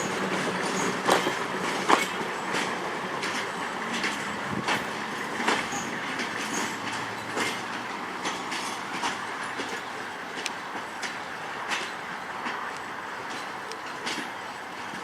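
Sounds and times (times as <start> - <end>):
train cars rolling past: 0.0 - 15.0
wheel clicks over rail joints: 0.0 - 15.0.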